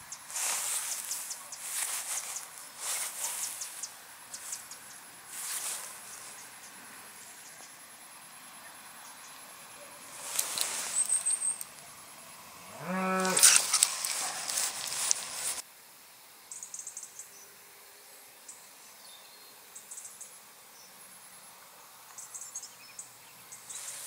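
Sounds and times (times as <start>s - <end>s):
insects ticking: 0.0s - 17.4s, 19.8s - 24.0s.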